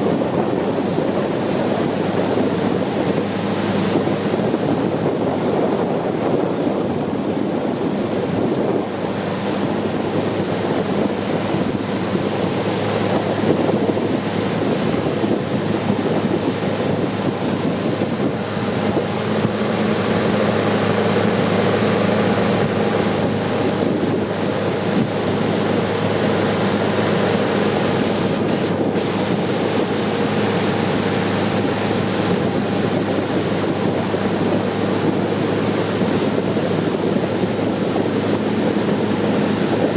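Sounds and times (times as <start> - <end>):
boat engine running: 0.0 - 39.9
water rushing: 0.0 - 39.9
wind buffeting microphone: 0.0 - 39.9.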